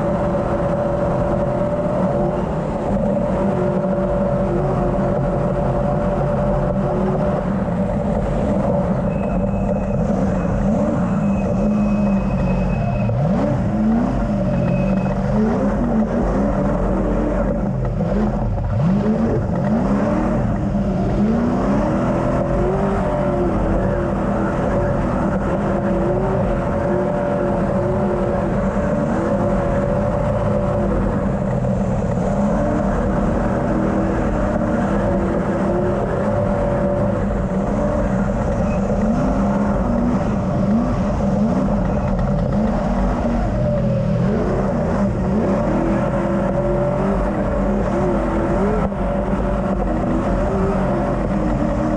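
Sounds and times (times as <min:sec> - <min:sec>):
race car engine revving: 0:00.0 - 0:51.9
steady whine: 0:00.0 - 0:51.9.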